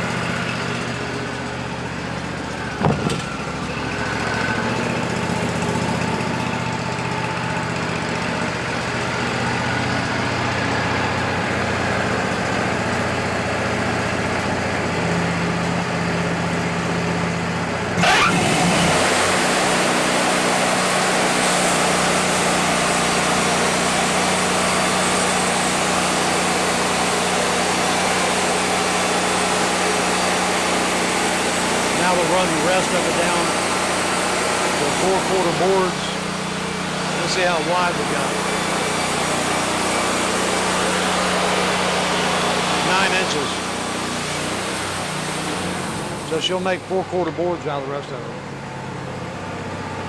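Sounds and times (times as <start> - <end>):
sawmill engine running: 0.0 - 50.0.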